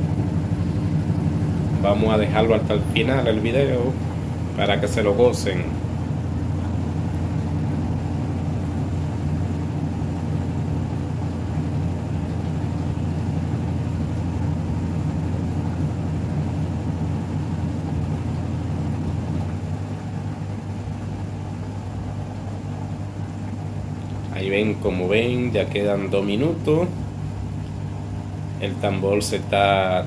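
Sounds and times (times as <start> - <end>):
washing machine spin cycle hum: 0.0 - 30.0.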